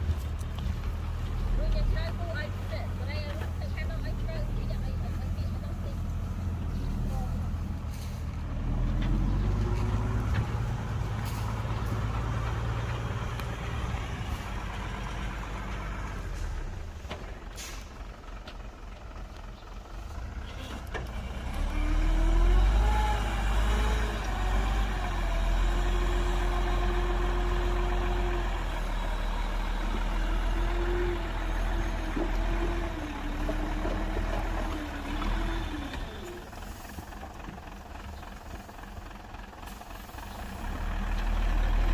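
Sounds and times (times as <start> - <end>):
diesel machinery engine rumble: 0.0 - 41.9.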